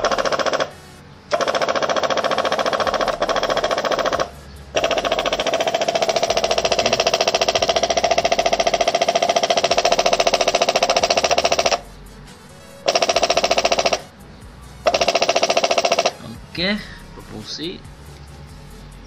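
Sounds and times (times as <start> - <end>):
fuel pump ticking chatter: 0.0 - 19.0.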